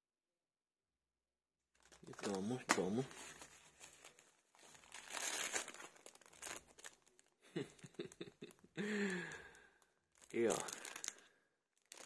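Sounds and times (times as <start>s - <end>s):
plastic bag crinkling: 1.7s - 12.0s.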